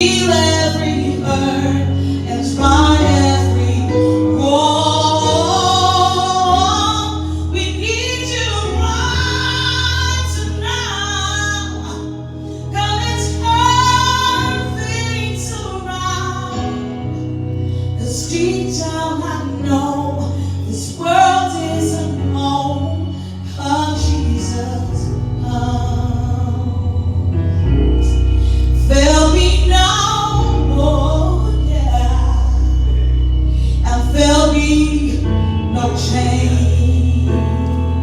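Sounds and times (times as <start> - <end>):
held low chords: 0.0 - 38.0
woman singing gospel song: 0.0 - 38.0.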